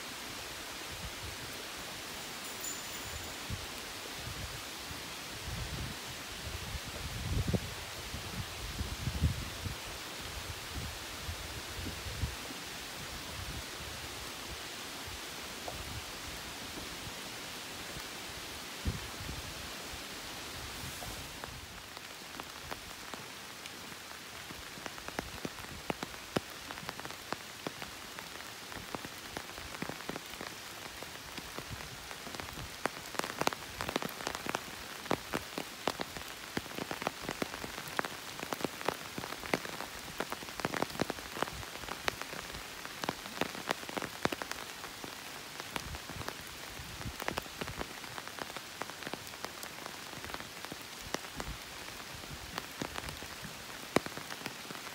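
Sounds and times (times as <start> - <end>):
rain falling: 0.0 - 54.9
raindrops striking close by: 0.0 - 54.9.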